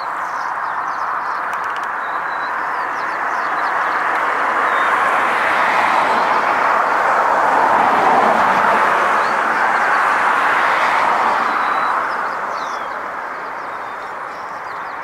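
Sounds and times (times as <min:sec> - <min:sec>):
passing road vehicle rushing: 0:01.9 - 0:14.5.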